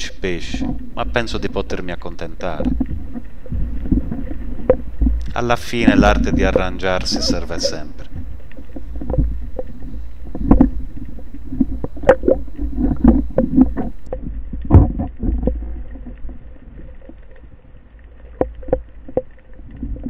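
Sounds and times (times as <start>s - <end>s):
underwater rumble of moving water: 0.0s - 20.0s.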